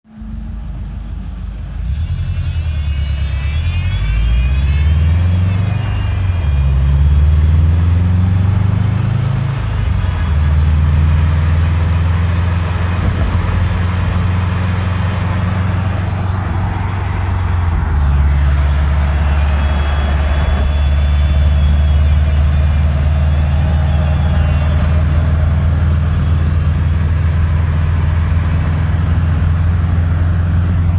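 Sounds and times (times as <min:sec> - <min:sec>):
cars driving on a road: 0:00.1 - 0:30.9
high whine from passing car: 0:00.1 - 0:30.9.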